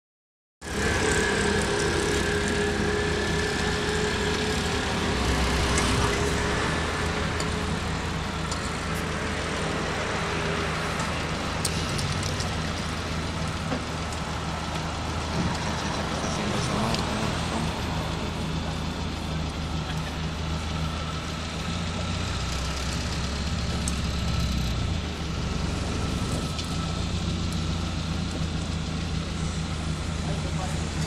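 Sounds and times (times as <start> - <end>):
car engine and tyres: 0.6 - 31.0
thin steady whine: 0.6 - 31.0.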